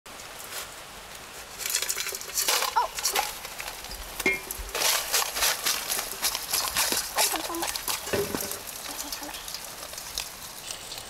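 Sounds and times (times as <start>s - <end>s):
scorpions rustling in metal bowl: 1.3s - 11.0s.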